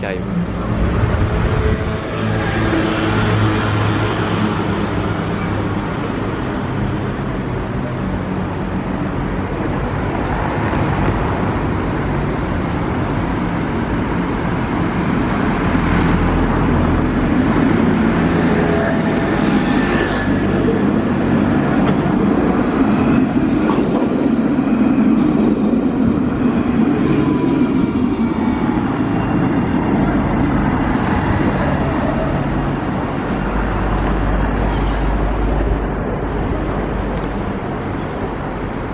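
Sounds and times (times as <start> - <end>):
street traffic: 0.0 - 38.9
tram rumbling past: 0.0 - 38.9.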